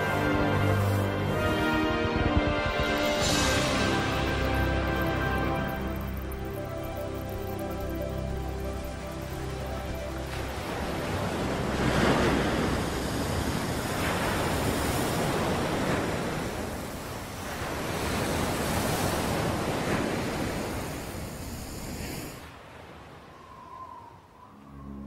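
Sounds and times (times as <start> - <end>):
waves washing over pebbles: 2.8 - 23.0.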